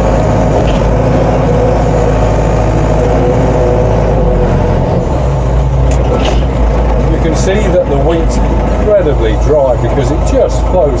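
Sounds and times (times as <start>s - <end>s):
hydraulic grain pusher working: 0.0s - 11.0s
loader diesel engine running: 0.0s - 11.0s.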